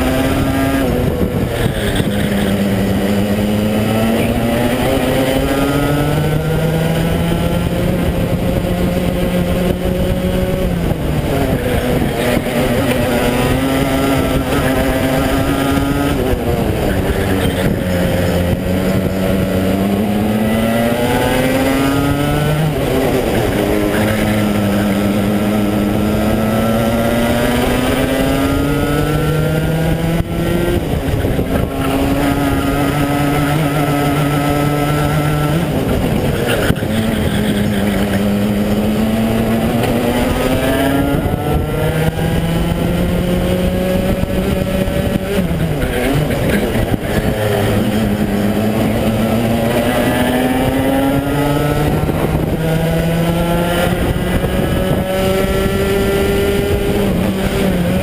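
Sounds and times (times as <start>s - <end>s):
racing kart engine revving: 0.0s - 58.0s.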